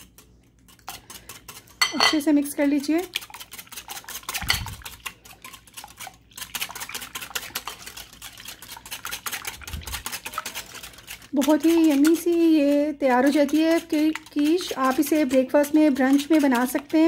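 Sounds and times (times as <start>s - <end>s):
whisk clicking against glass bowl: 0.0s - 17.0s.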